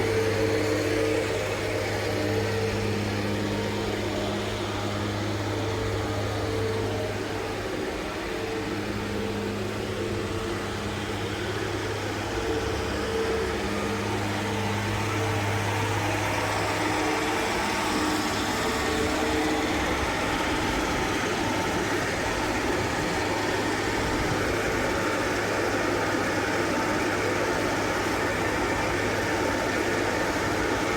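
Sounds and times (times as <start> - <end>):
baler mechanical hum: 0.0 - 30.9.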